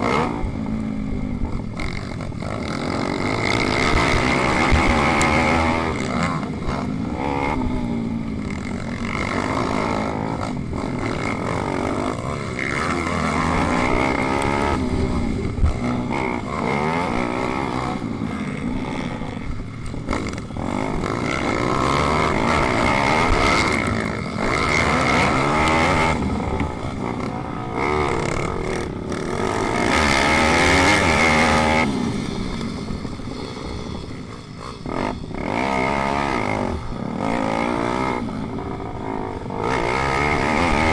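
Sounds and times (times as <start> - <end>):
pit bike engines racing: 0.0 - 40.9.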